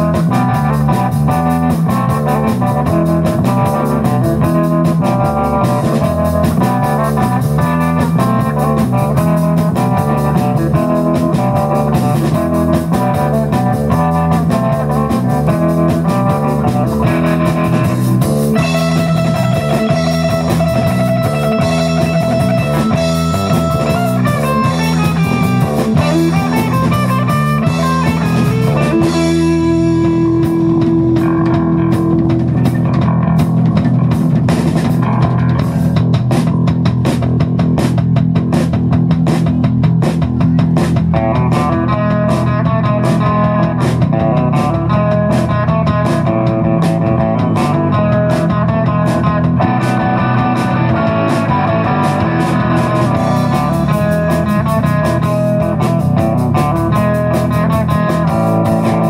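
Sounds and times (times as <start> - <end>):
bass guitar: 0.0 - 59.0
drum kit: 0.0 - 59.0
electric guitar lead: 0.0 - 59.0.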